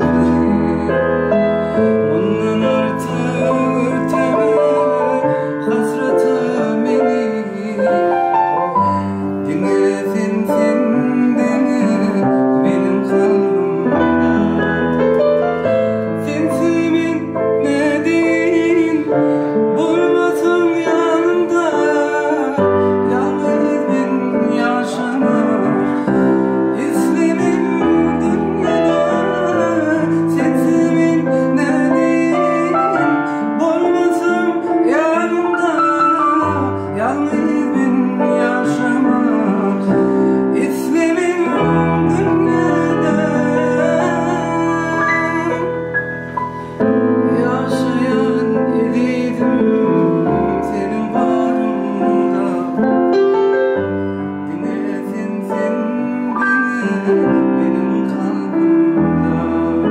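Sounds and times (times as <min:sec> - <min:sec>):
digital piano chords: 0:00.0 - 0:59.9
man singing with vibrato: 0:00.0 - 0:59.9.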